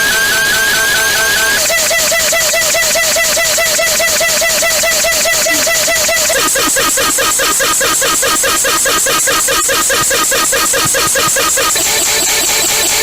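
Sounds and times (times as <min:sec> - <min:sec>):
electronic alarm warble: 0:00.0 - 0:13.0.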